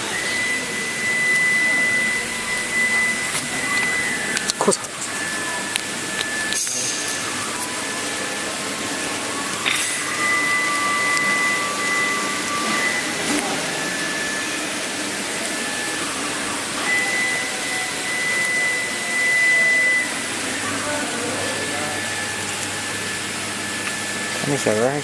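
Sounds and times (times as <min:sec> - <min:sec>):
router running with high whine: 0:00.0 - 0:25.0.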